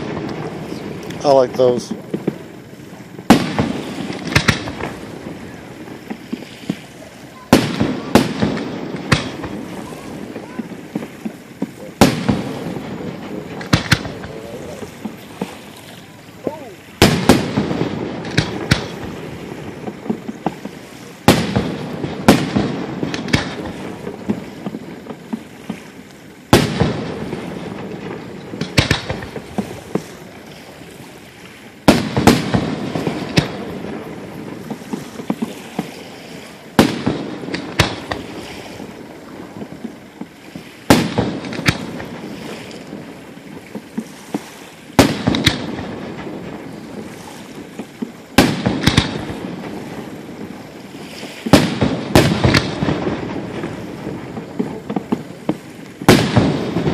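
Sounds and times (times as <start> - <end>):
crackling pops of fireworks: 0.0 - 56.9
fireworks booming: 0.0 - 56.9.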